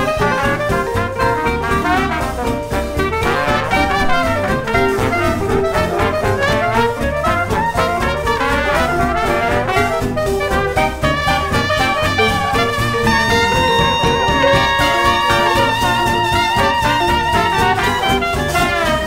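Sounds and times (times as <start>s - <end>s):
brass-led jazz music: 0.0s - 19.0s.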